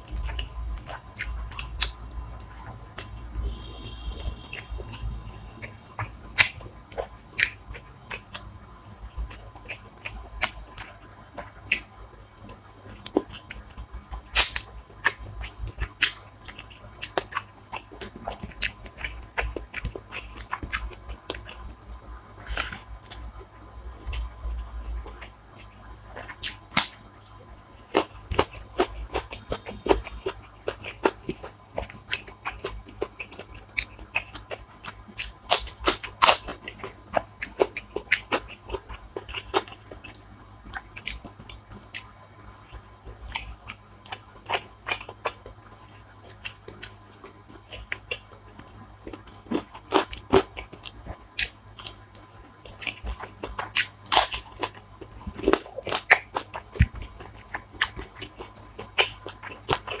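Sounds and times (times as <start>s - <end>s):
chewing and crunching food: 0.0s - 60.0s.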